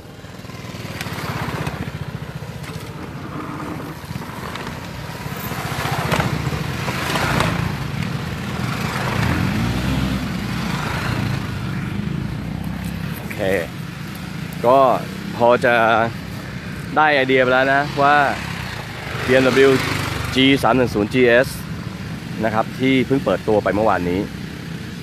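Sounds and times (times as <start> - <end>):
motorcycle engines riding past: 0.0 - 25.0.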